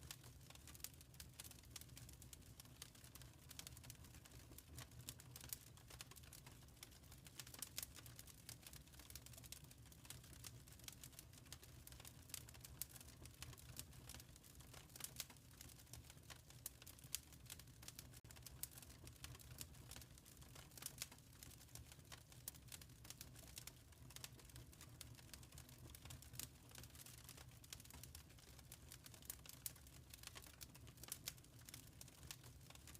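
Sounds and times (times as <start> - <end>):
low steady flames: 0.0 - 32.9
wood fire crackling: 0.0 - 32.9.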